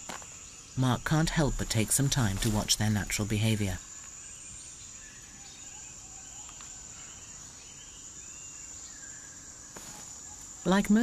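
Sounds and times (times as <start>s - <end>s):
insects droning high-pitched: 0.0s - 11.0s.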